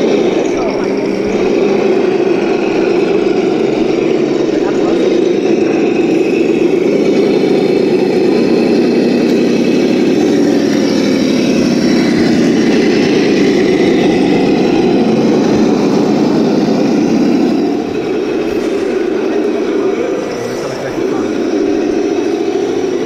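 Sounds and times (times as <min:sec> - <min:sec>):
rc car electric motor whirring: 0:00.0 - 0:23.0.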